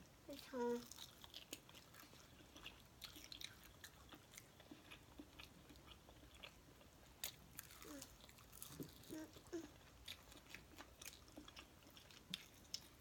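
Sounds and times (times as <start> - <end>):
chewing fried chicken: 0.3 - 13.0.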